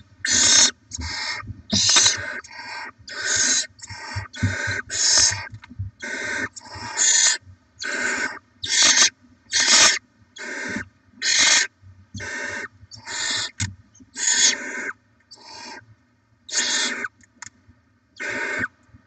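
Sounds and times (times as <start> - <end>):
owl chicks hissing calls: 0.2 - 15.8, 16.5 - 17.2, 18.2 - 18.7.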